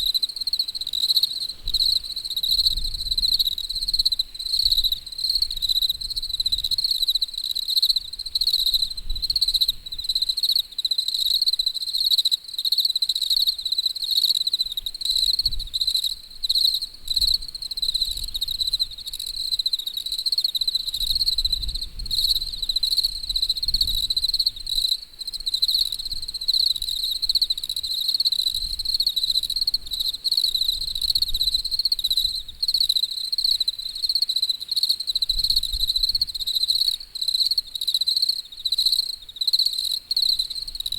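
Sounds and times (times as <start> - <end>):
insects chirping in pulsing trill: 0.0 - 40.9.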